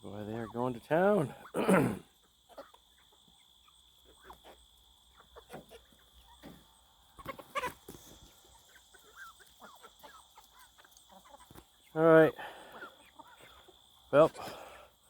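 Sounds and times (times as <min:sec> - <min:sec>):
chickens and ducks calling: 0:00.0 - 0:15.0.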